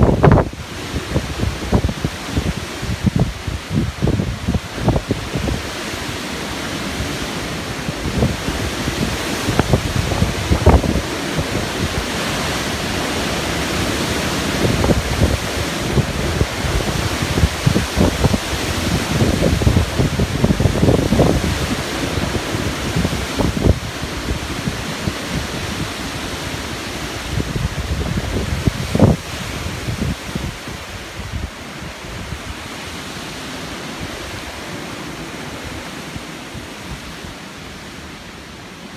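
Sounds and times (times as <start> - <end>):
wind buffeting microphone: 0.0 - 37.9
strong wind rushing: 0.0 - 38.9.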